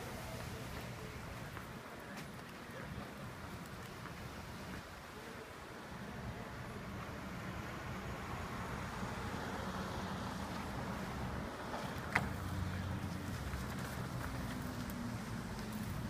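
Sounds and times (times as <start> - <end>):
vehicle traffic hum: 0.0 - 16.0.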